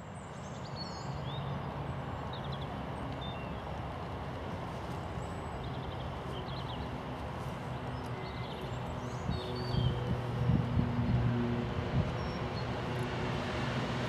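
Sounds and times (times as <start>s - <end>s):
small birds chirping and trilling: 0.1s - 3.9s, 4.6s - 11.2s, 12.0s - 13.1s.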